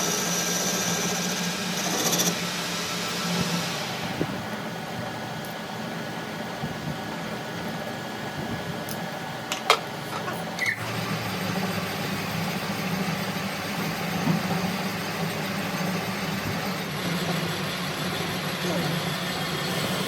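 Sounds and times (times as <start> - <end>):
engine hum: 0.0 - 20.0.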